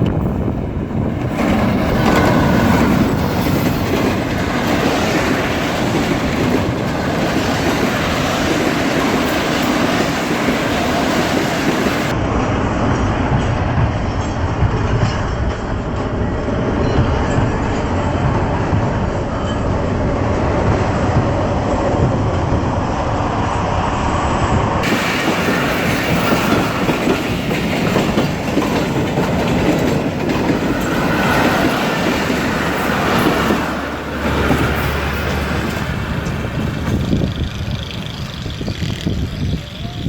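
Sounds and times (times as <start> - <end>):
train wheels clattering on rails: 0.0 - 12.2, 12.8 - 23.0, 24.5 - 40.0.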